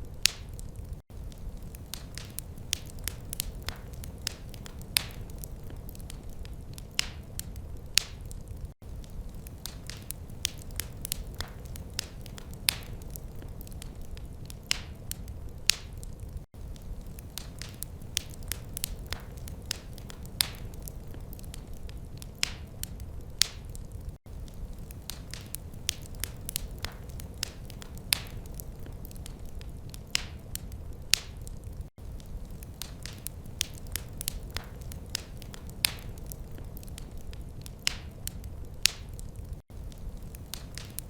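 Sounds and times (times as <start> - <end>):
loud fire pops: 0.0 - 41.0
wood fire crackling: 0.0 - 41.0.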